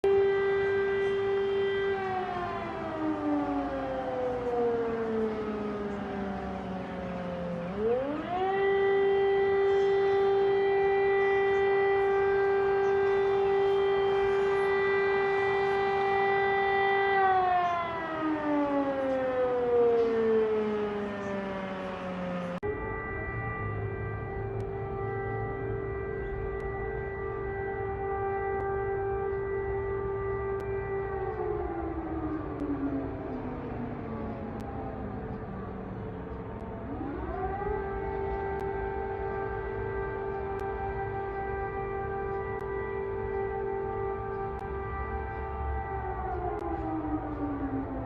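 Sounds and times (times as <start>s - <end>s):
air raid siren wailing: 0.0s - 48.0s.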